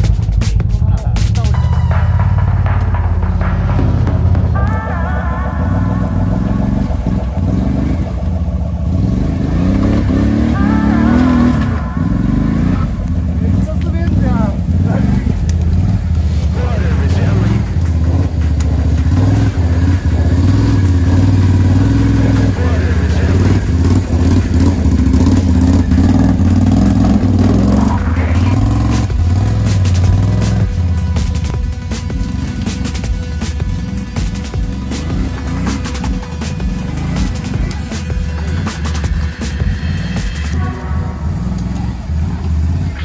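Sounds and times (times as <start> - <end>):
atv engine revving: 0.0 - 43.0.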